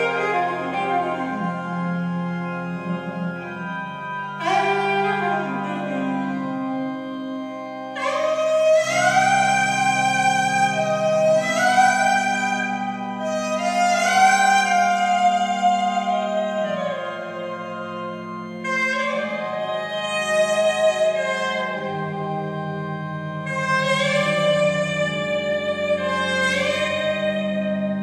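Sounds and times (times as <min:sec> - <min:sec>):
instrumental music over loudspeakers: 0:00.0 - 0:28.0.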